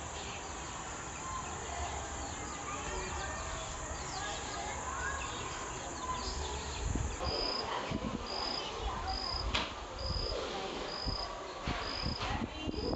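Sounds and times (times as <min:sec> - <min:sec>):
insect chirping: 0:00.1 - 0:07.7, 0:08.3 - 0:12.2.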